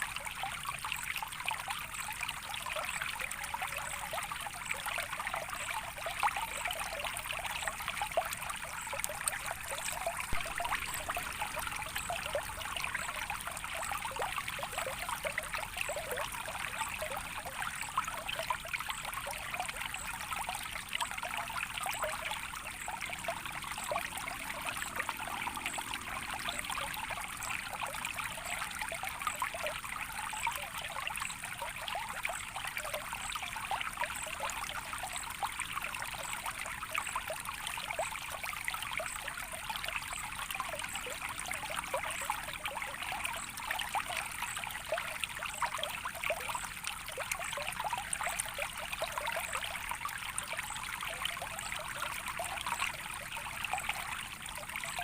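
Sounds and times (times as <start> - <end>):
stream trickling and splashing: 0.0 - 55.0.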